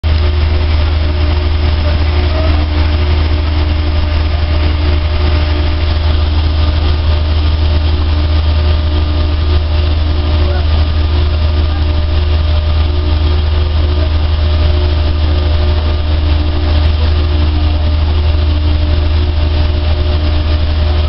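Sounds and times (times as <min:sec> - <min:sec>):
dryer running: 0:00.0 - 0:21.0.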